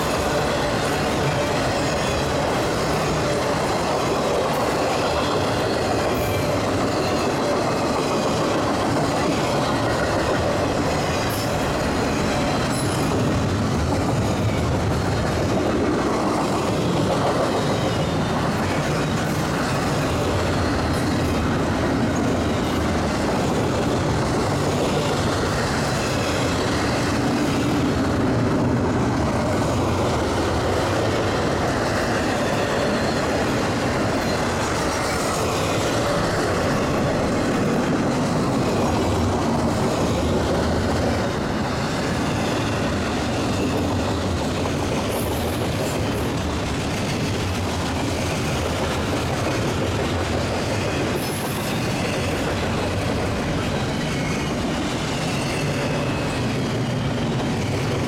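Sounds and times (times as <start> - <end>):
train wheel squeal: 0.0 - 28.6, 29.2 - 58.0
train wheels clacking over rail joints: 0.0 - 58.0.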